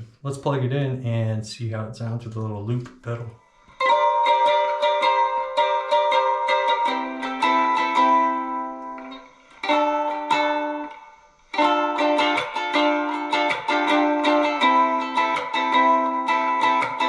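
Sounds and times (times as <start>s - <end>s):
ukulele strumming: 3.1s - 17.0s.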